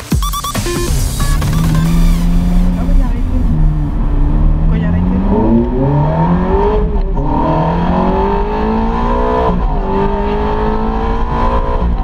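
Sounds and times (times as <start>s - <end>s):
sports car engine accelerating: 0.8s - 12.0s.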